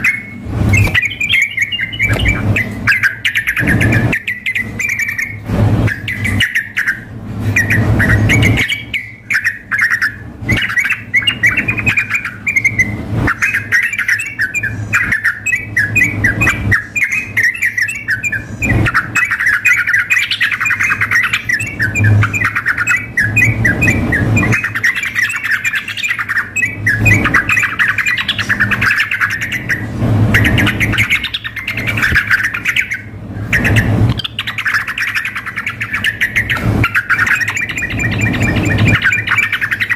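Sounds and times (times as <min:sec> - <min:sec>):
bulbuls singing and chattering: 0:00.0 - 0:39.9.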